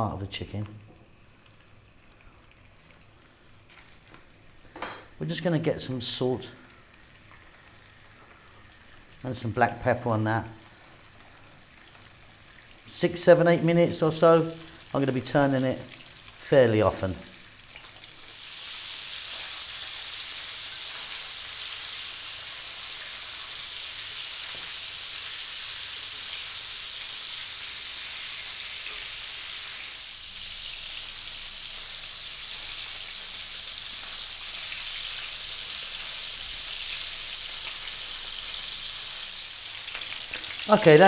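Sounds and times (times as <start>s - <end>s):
chicken frying in oil: 0.0s - 41.0s.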